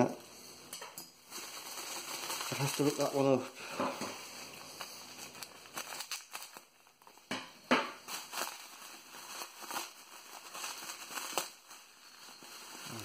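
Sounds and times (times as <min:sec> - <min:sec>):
bubble wrap crinkling: 0:01.2 - 0:13.0.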